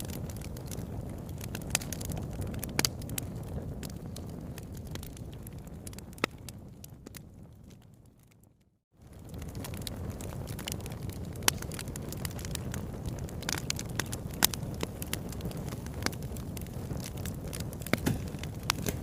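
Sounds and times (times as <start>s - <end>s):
sharp pops of fire: 0.0s - 7.3s, 9.0s - 19.0s
fire crackling: 0.0s - 19.0s.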